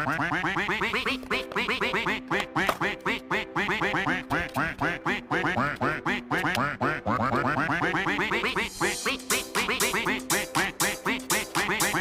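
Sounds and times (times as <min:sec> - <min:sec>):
bouncy cartoon music: 0:00.0 - 0:12.0.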